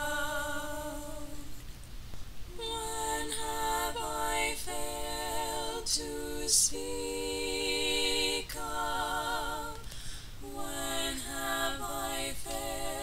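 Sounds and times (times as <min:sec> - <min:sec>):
women singing in harmony: 0:00.0 - 0:01.6, 0:02.5 - 0:13.0.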